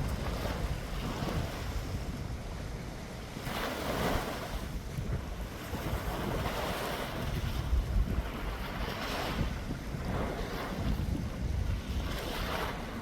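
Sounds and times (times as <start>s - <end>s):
sea waves washing on shore: 0.0s - 13.0s
wind buffeting microphone: 0.0s - 13.0s.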